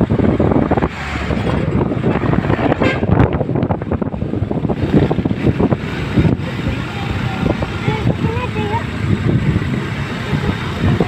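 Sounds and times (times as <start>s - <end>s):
road traffic passing: 0.0s - 11.0s
wind buffeting microphone: 0.0s - 11.0s.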